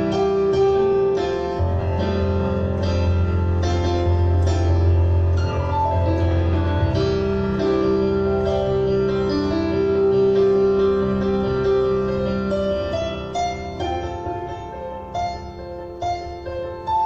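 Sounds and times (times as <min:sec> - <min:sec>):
piano-like keyboard playing: 0:00.0 - 0:17.0.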